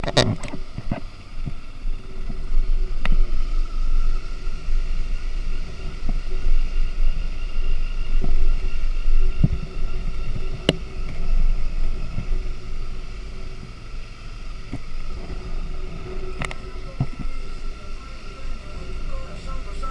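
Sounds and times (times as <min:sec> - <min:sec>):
motorcycle engine running: 0:00.0 - 0:19.9
wind rumble on microphone: 0:00.0 - 0:19.9.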